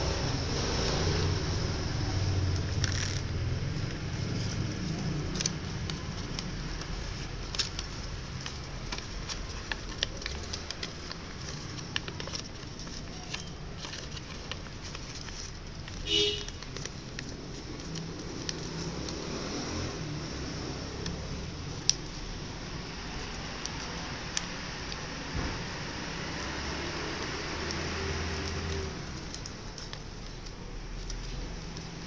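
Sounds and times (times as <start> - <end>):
paper rustling and crackling: 2.5 - 32.0.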